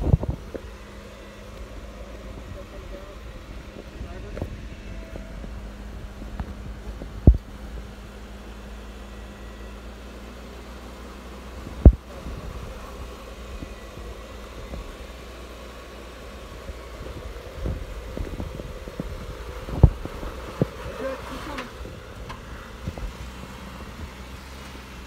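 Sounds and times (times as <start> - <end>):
engine running low: 0.0 - 25.0.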